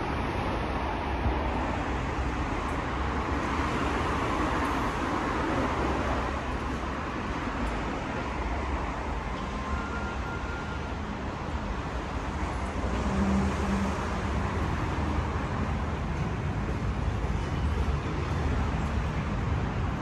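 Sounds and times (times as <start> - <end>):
subway station rumble and hiss: 0.0 - 20.0.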